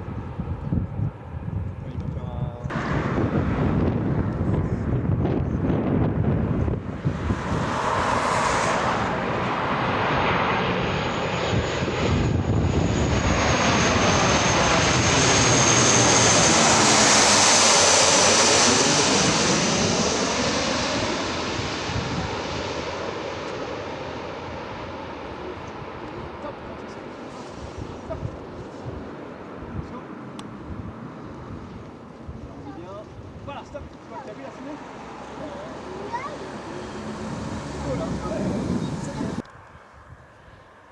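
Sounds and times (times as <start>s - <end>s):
aircraft passing overhead: 0.0s - 40.9s.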